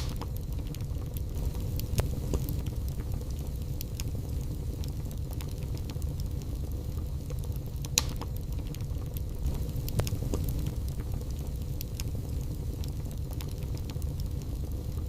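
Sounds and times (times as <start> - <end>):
fire rumbling: 0.0 - 15.0
wood crackling and popping: 0.0 - 15.0.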